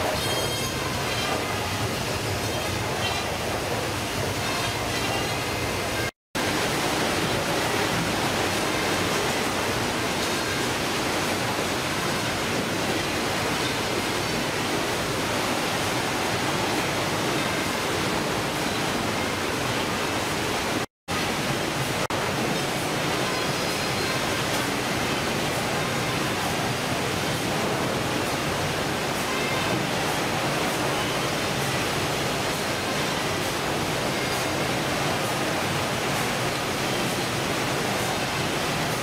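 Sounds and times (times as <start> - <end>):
processing machinery and conveyors: 0.0 - 39.0
rushing water: 0.0 - 39.0.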